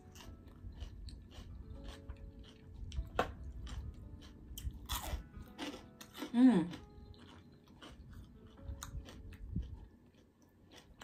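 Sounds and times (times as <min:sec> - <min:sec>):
chewing salad: 0:00.0 - 0:11.0
faint background music: 0:00.0 - 0:11.0.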